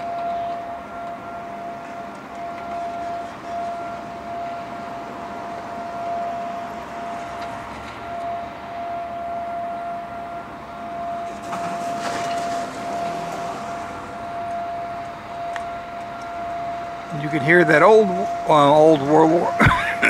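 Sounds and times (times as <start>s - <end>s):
air raid siren steady tone: 0.0s - 20.0s
freight train noise: 0.0s - 20.0s.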